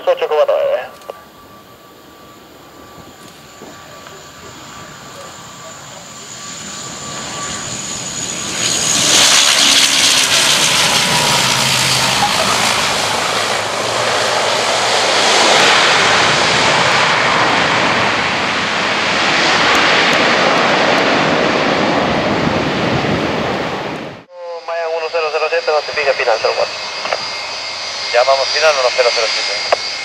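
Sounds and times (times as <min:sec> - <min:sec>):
turboprop engine and propeller roar: 0:00.0 - 0:30.0.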